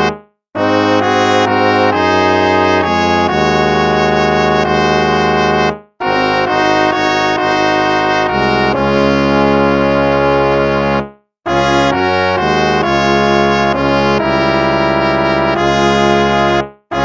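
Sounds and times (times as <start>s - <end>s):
brass-like hymn chords: 0.0s - 17.0s.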